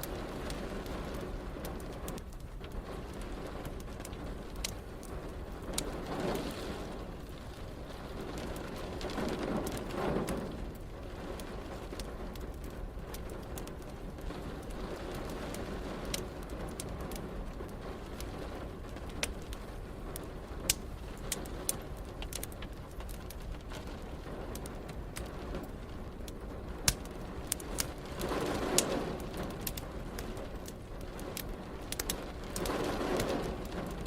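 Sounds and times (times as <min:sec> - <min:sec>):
rain hissing: 0:00.0 - 0:34.0
wood fire crackling: 0:00.0 - 0:34.0.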